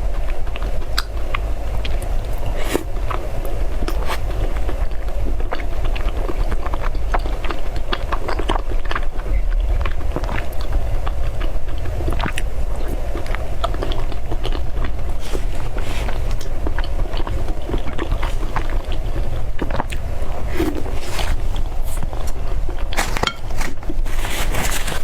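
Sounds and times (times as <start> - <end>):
chewing soft food: 0.0 - 25.0
steady low hum: 0.0 - 25.0.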